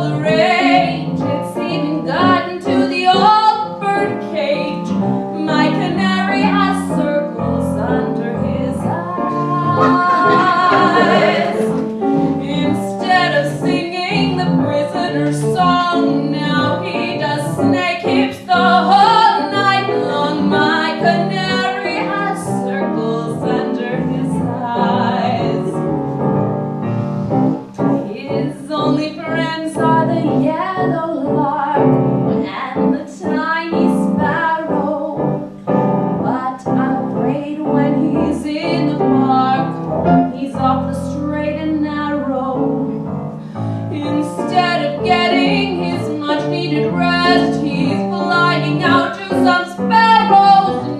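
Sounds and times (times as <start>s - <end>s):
woman singing with vibrato: 0.0s - 25.7s, 28.0s - 35.3s, 36.2s - 39.6s, 43.9s - 50.9s
piano accompaniment: 0.0s - 50.9s.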